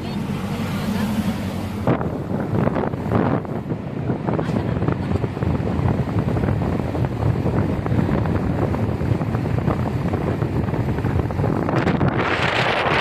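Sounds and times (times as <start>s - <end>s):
car road and tyre noise: 0.0s - 13.0s
wind buffeting microphone: 0.0s - 13.0s.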